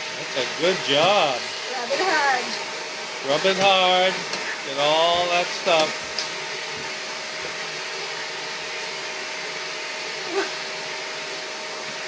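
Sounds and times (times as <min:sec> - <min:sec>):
vacuum cleaner humming: 0:00.0 - 0:12.0.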